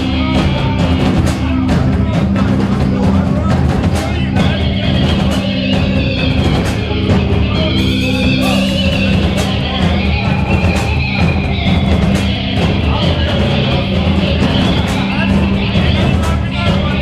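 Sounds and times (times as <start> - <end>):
heavy rock band playing: 0.0 - 17.0.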